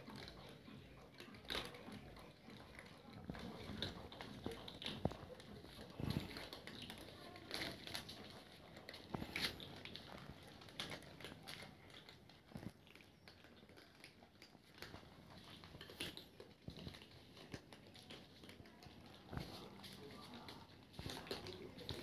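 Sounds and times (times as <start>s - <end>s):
cats crunching dry food: 0.0s - 22.0s.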